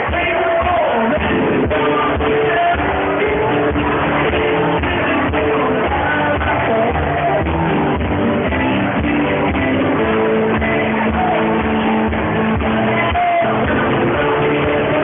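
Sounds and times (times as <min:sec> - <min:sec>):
drum kit beat: 0:00.0 - 0:15.0
live rock band playing: 0:00.0 - 0:15.0.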